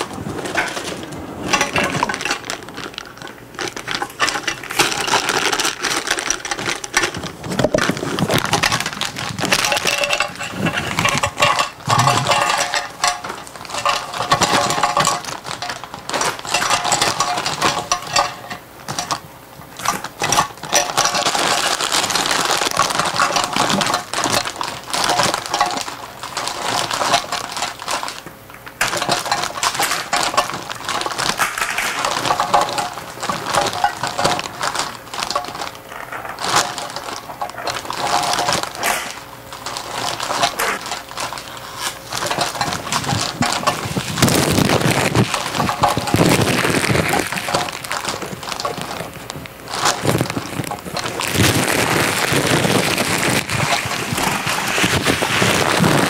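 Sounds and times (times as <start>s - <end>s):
packaging crinkled by hand: 0.0s - 56.0s.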